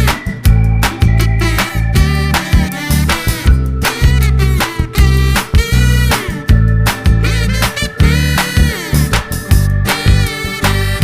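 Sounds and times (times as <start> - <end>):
upbeat soul-funk music: 0.0 - 11.0.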